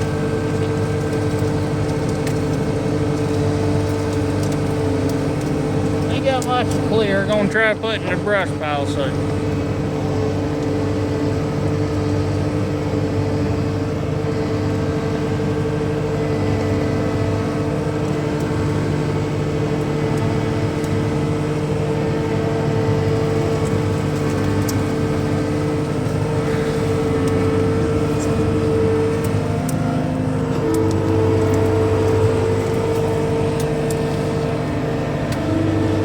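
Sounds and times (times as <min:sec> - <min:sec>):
diesel engine running under load: 0:00.0 - 0:36.0.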